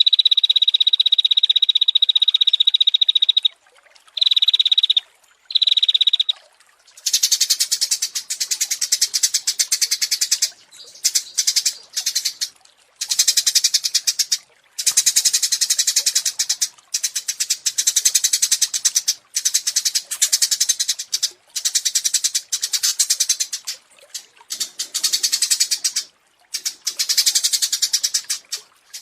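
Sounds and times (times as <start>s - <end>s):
songbird singing rapid sharp notes: 4.2s - 29.0s.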